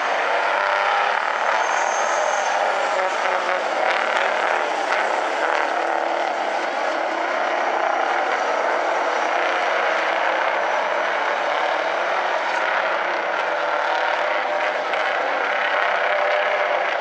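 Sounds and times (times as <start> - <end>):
truck engines droning: 0.0 - 17.0.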